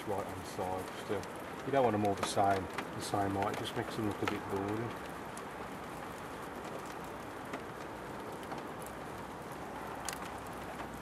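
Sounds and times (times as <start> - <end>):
raindrop ticks: 0.0 - 11.0
steady rain hiss: 0.0 - 11.0.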